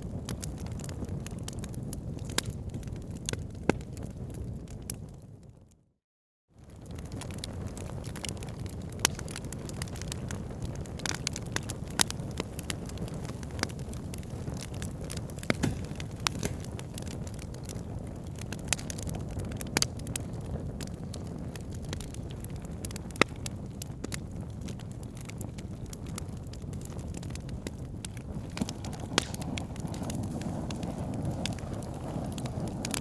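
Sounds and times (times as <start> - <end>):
fire burning in fireplace: 0.0 - 5.7, 6.6 - 33.0
fire crackling and popping: 0.0 - 5.7, 6.6 - 33.0.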